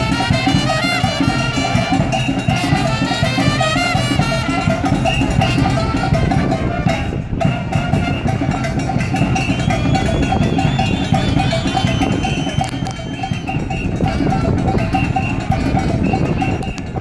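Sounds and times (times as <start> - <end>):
cowbell beat: 0.0 - 17.0
latin dance music: 0.0 - 17.0.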